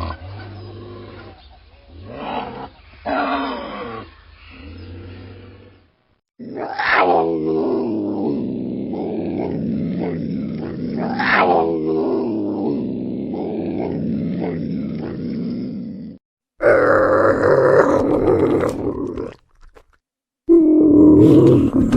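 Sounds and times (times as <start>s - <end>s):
animal growling calls: 0.0s - 19.9s, 20.5s - 21.9s.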